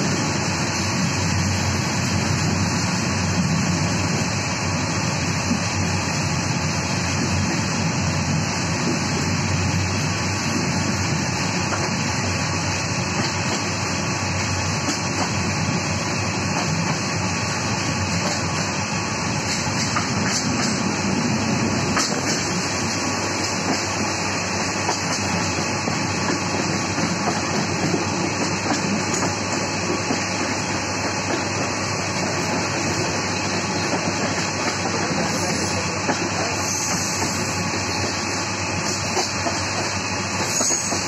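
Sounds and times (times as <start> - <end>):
train running on track: 0.0 - 41.0.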